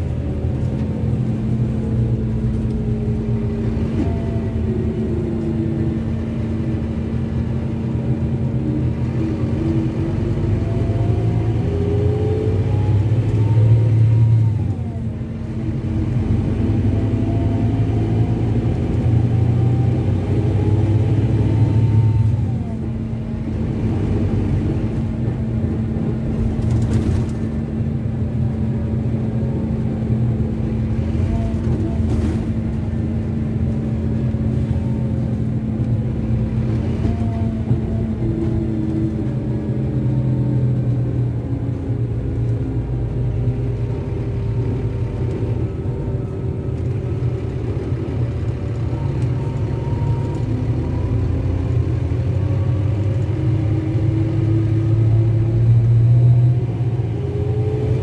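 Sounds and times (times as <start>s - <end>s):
diesel bus engine rumbling: 0.0s - 58.0s.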